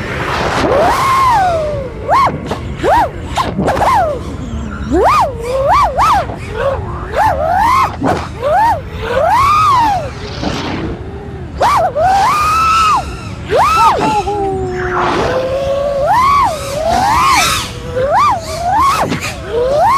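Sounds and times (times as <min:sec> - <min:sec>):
quadcopter motors whining: 0:00.0 - 0:19.9.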